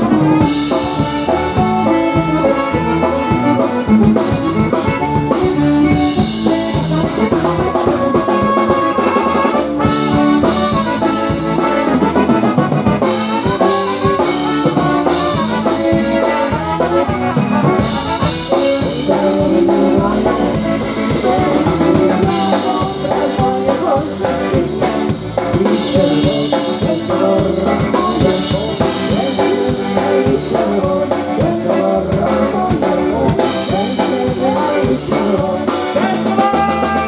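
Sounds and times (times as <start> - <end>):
concertina: 0.0 - 37.0
drum kit dance beat: 0.0 - 37.0
polka band playing: 0.0 - 37.0.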